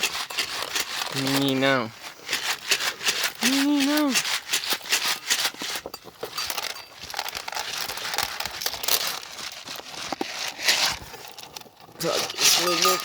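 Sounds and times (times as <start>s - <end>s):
rustling and crackling: 0.0s - 13.0s.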